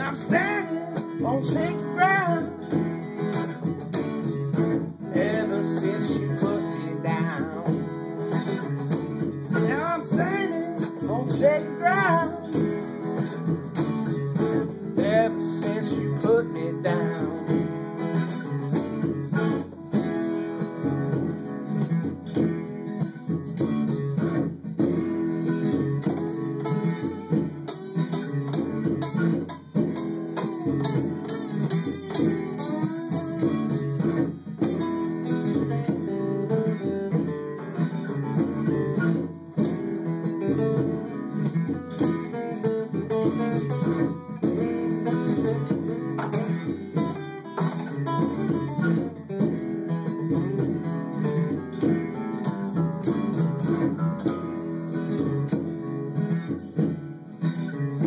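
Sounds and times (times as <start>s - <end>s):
acoustic guitar: 0.0s - 58.0s.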